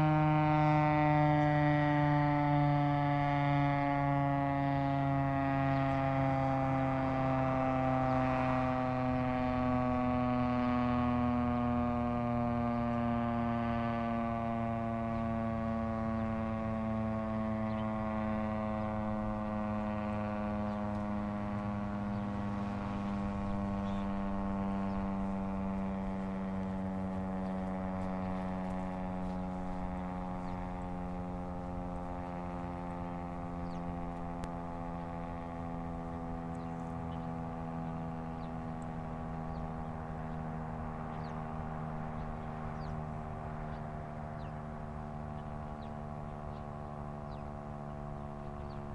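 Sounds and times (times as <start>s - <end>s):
siren winding down: 0.0s - 48.9s.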